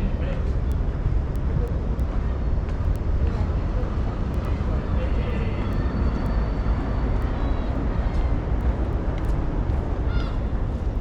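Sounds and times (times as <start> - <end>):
steady low street rumble: 0.0 - 11.0.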